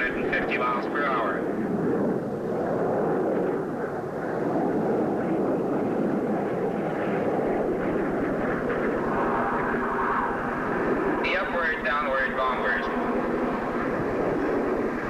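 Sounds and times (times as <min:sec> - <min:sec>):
jet aircraft flying by: 0:00.0 - 0:15.0.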